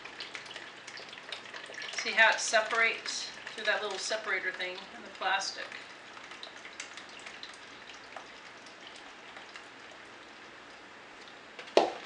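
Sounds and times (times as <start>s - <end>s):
drips and splashes: 0.0s - 12.0s
juice trickling into container: 0.0s - 12.0s.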